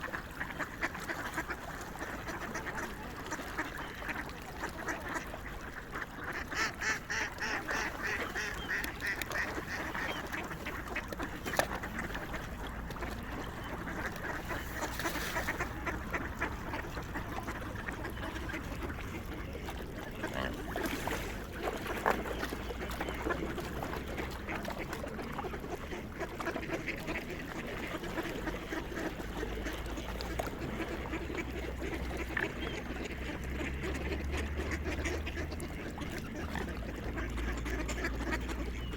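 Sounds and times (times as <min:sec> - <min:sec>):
swans and waterfowl honking and quacking: 0:00.0 - 0:38.9.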